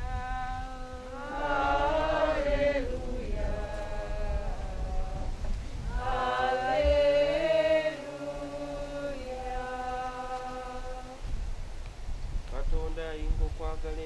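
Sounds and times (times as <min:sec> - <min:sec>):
chant sung in held notes: 0:00.0 - 0:11.4.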